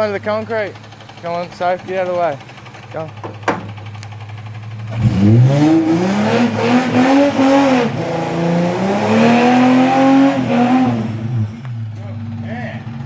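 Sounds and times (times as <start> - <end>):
car engine revving under load: 2.4 - 13.0.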